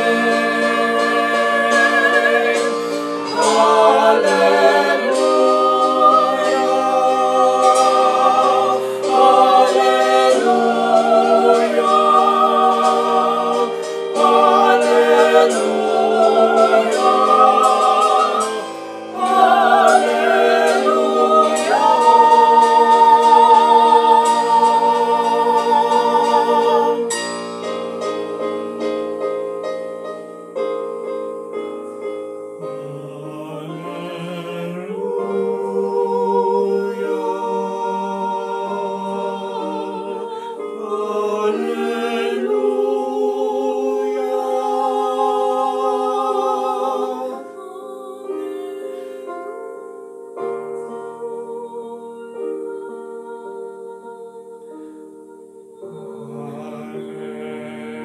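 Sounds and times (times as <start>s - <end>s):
vocal quartet singing in harmony: 0.0s - 58.0s.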